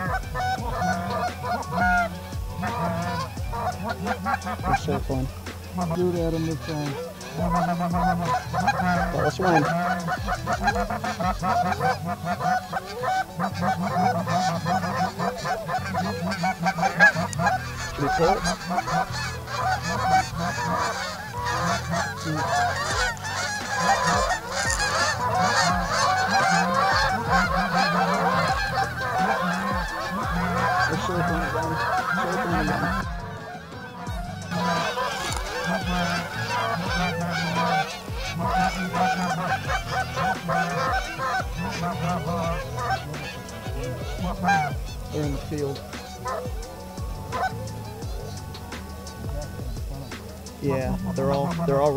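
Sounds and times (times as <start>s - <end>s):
geese honking: 0.0s - 51.9s.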